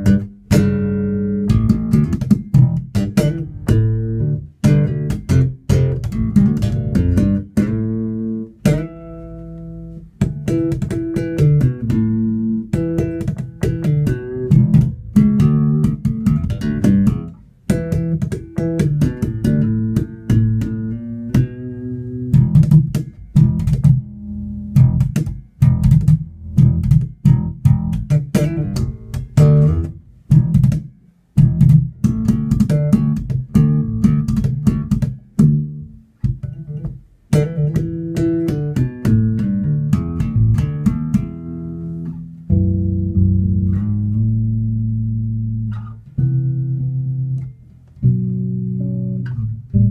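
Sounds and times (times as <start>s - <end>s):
electric bass plucked notes: 0.0s - 49.9s.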